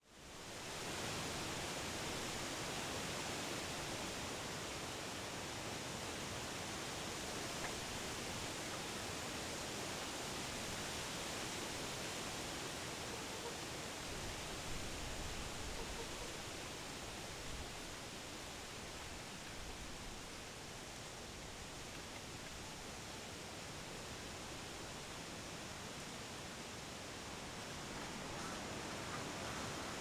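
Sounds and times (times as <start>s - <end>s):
wind rustling tree leaves: 0.0s - 30.0s.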